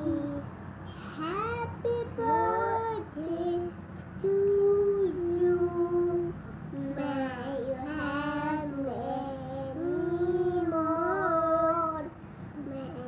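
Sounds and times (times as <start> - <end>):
young children singing: 0.0 - 0.5, 1.2 - 13.0.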